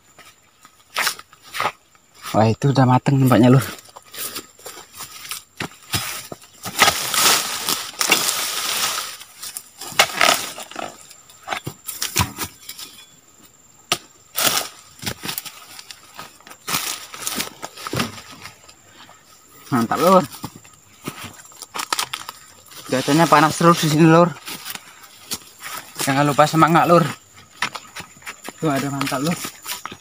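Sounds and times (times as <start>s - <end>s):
dry fronds rustling and crunching: 3.2s - 13.0s, 14.2s - 30.0s.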